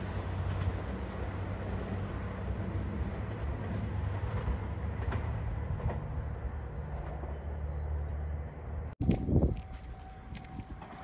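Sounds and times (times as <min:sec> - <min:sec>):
diesel railcars rumbling: 0:00.0 - 0:11.0.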